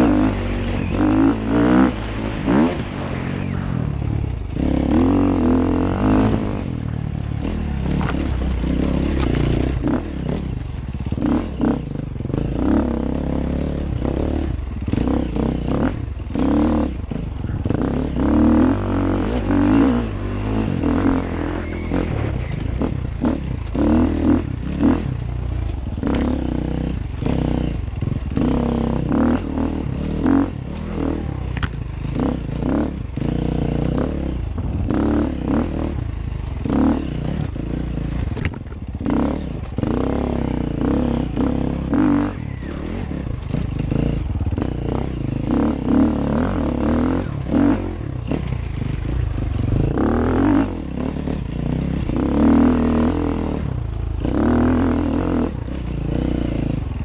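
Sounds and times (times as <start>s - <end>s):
motorcycle engine revving: 0.0s - 57.0s
bike clattering over rough trail: 6.0s - 57.0s.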